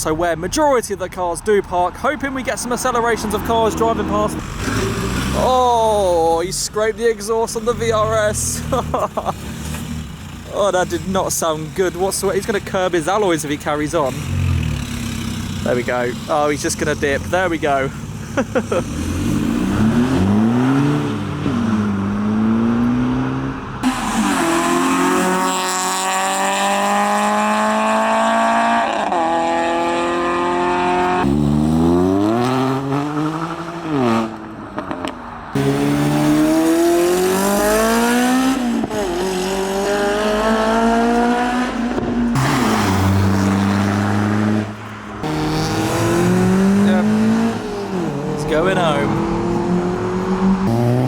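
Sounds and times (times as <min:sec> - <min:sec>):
cars accelerating hard: 0:02.5 - 0:06.5, 0:07.3 - 0:51.0.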